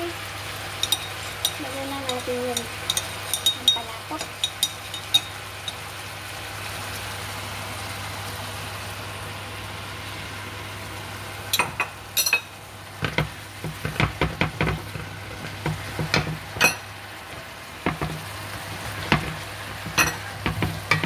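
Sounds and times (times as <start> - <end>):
food sizzling in wok: 0.0 - 21.0.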